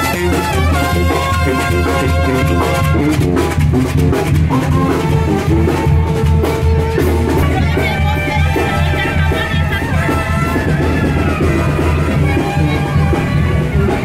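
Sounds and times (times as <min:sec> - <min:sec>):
latin band music: 0:00.0 - 0:14.0.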